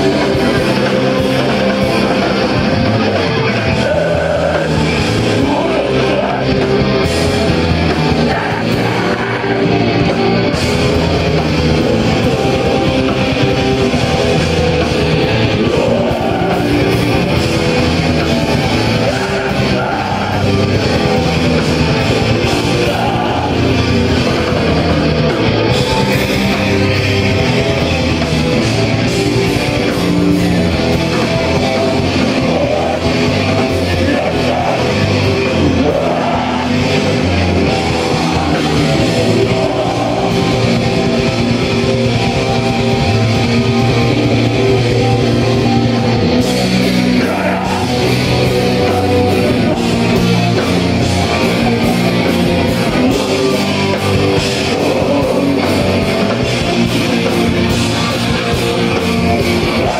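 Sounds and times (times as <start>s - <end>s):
bass guitar: 0.0s - 59.9s
distorted electric guitar: 0.0s - 59.9s
drums: 0.0s - 59.9s.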